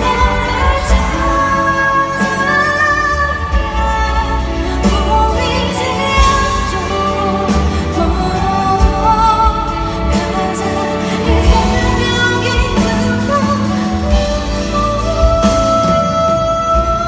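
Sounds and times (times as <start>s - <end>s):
backing band: 0.0s - 17.0s
bass line: 0.0s - 17.0s
woman singing: 0.0s - 17.0s.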